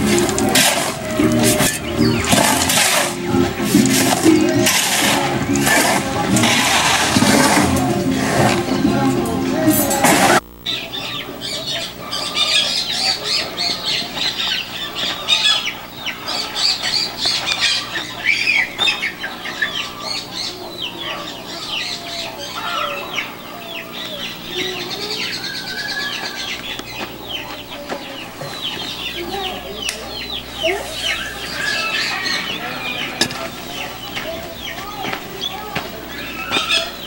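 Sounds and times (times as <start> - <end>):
birds chirping: 0.0 - 37.0
chickens clucking: 0.0 - 37.0.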